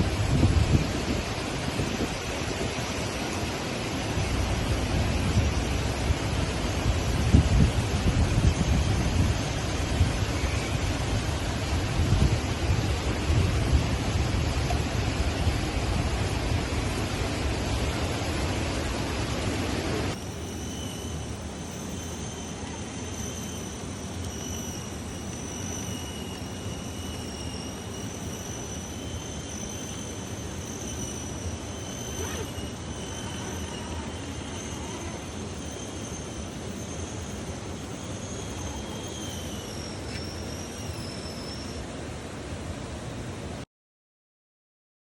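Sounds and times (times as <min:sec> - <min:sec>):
electric winch motor whining: 0:00.0 - 0:41.9.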